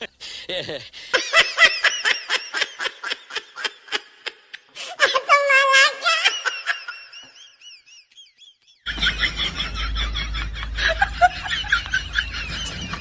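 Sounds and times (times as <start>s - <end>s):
high-pitched giggling laughter: 0.6s - 13.0s.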